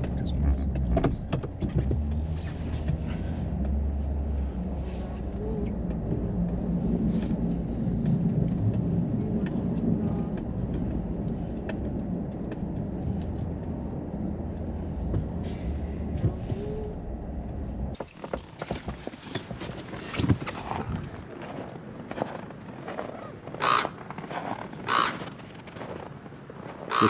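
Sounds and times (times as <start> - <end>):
truck engine and tyres rumbling: 0.0 - 27.0.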